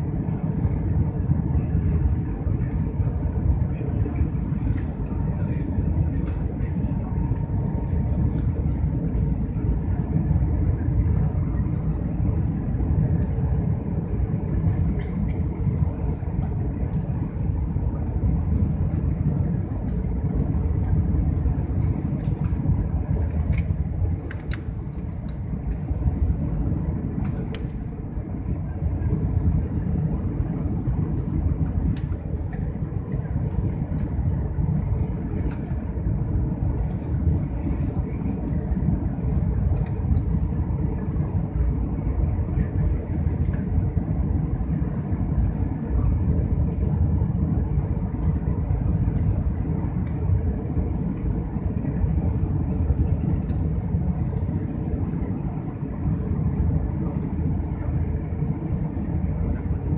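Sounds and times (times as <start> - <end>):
airliner cabin engine roar: 0.0 - 59.9.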